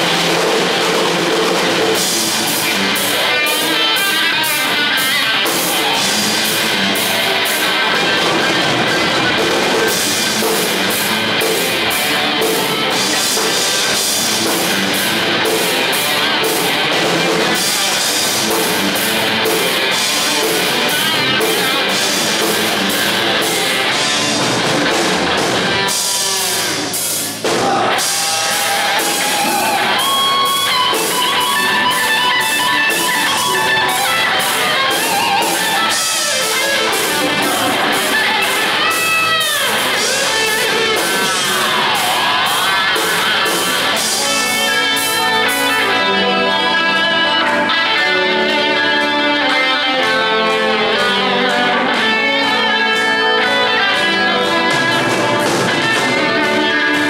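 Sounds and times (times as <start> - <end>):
heavy metal band playing: 0.0 - 57.0.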